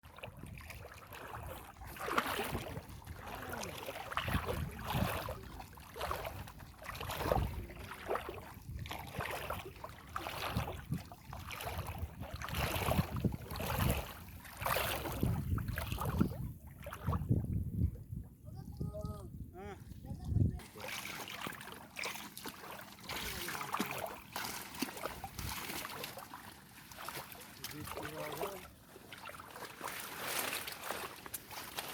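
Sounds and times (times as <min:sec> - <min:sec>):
water splashing and sloshing: 0:00.0 - 0:31.9.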